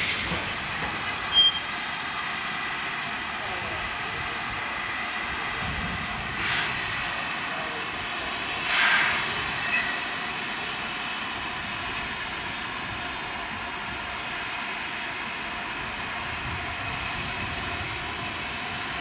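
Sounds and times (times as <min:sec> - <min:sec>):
steam train rushing hiss: 0:00.0 - 0:19.0.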